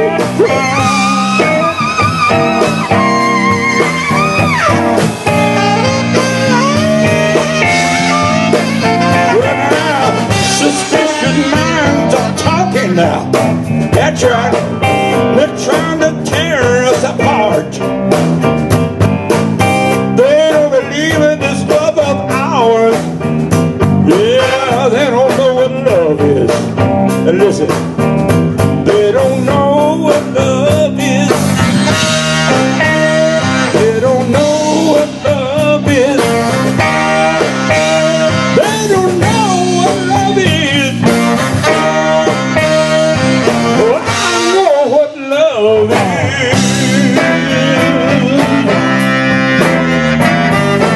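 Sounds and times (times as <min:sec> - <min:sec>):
blues-rock band playing: 0:00.0 - 0:50.9.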